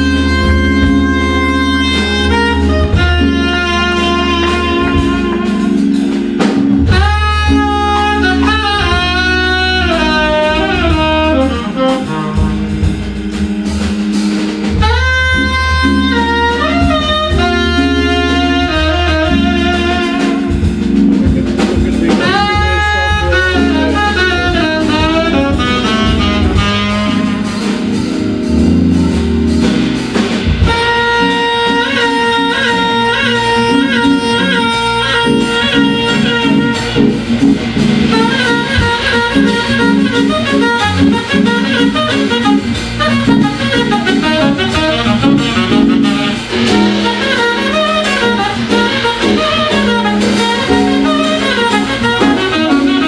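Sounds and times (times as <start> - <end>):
drum kit: 0.0 - 53.0
organ chords and bass notes: 0.0 - 53.0
tenor saxophone melody: 0.0 - 53.0.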